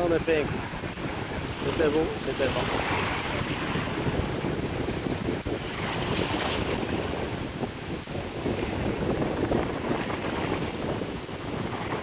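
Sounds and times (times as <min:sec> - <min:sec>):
surf washing: 0:00.0 - 0:12.0
wind buffeting microphone: 0:00.0 - 0:12.0.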